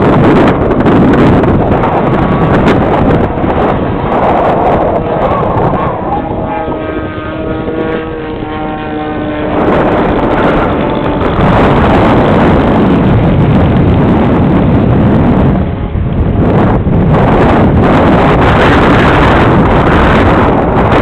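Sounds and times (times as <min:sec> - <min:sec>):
model airplane engine drone: 0:00.0 - 0:21.0
wind buffeting microphone: 0:00.0 - 0:21.0.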